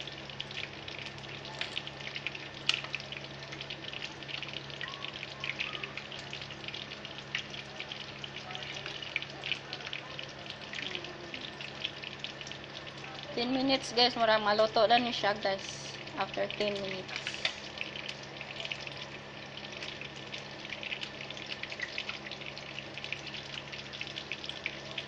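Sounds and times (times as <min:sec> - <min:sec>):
chicken frying in hot oil: 0:00.0 - 0:25.0.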